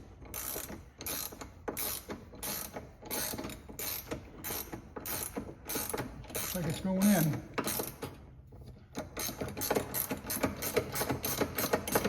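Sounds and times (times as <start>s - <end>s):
ratchet wrench clicking: 0.2s - 8.1s, 9.2s - 12.0s.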